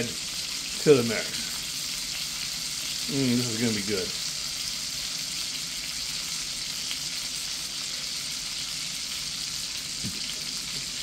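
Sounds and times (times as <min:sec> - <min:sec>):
pork chops sizzling in a skillet: 0:00.0 - 0:11.0.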